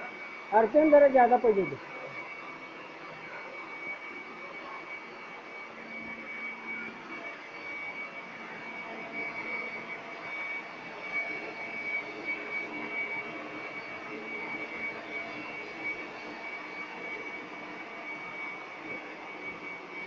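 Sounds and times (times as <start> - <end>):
high whine of sprayer: 0.0 - 20.0.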